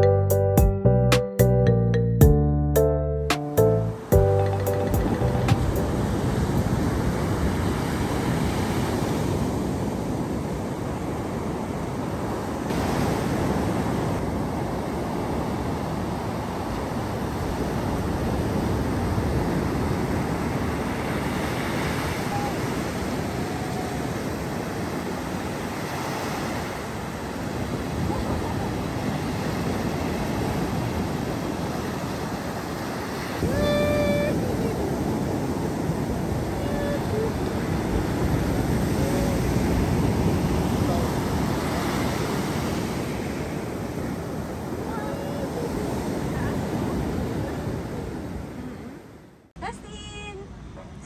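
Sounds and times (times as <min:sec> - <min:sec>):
waves breaking on shore: 0:04.4 - 0:49.5.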